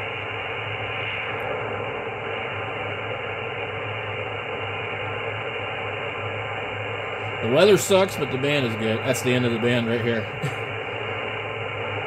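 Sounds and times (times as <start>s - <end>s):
low hum: 0.0s - 12.0s
radio band noise hiss: 0.0s - 12.0s.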